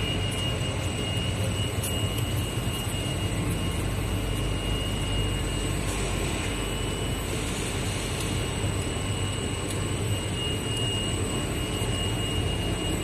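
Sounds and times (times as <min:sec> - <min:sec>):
machine hum and whir: 0:00.0 - 0:13.0
thin high whine: 0:00.0 - 0:13.0.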